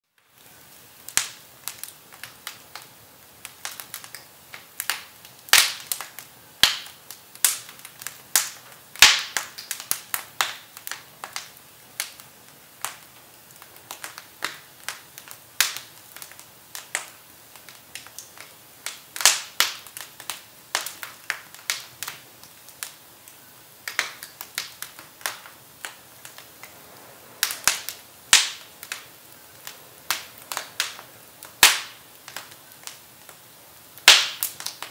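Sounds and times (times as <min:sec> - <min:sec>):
firewood crackling and popping: 0:00.1 - 0:34.9.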